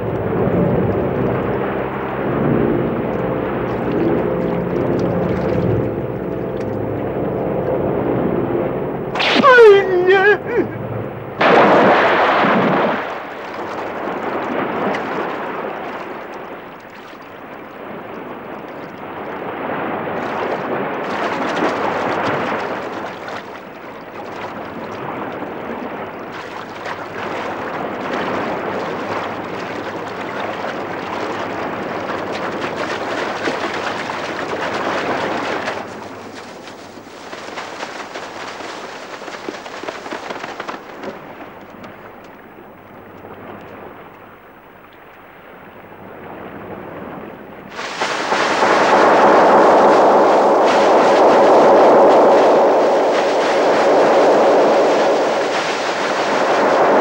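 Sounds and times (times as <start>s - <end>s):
rough water rushing and breaking: 0.0s - 43.7s, 47.6s - 57.0s.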